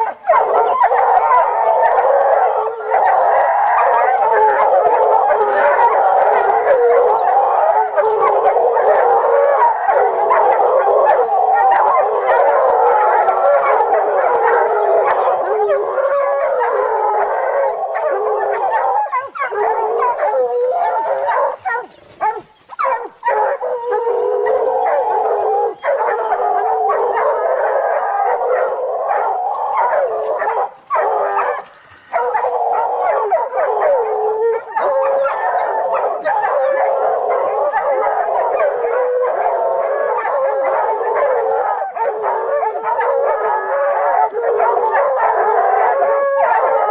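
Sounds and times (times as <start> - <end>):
hounds baying and howling: 0.0 - 46.9.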